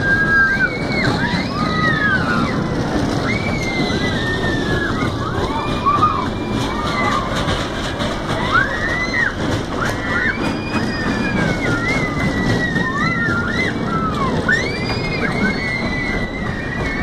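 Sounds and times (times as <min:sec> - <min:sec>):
roller coaster wheels squealing: 0:00.0 - 0:17.0
rumble of rolling cars: 0:00.0 - 0:17.0.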